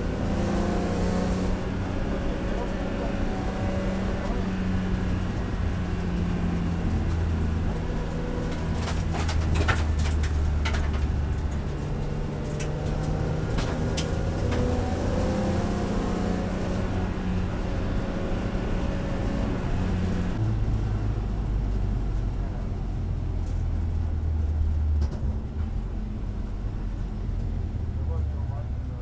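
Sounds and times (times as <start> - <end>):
car engine drone from cabin: 0.0 - 29.0.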